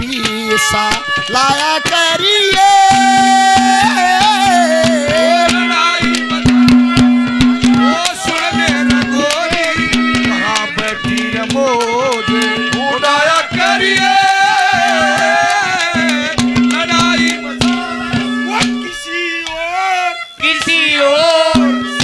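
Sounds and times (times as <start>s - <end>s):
fast hand drum strokes: 0.0s - 19.7s, 20.4s - 22.0s.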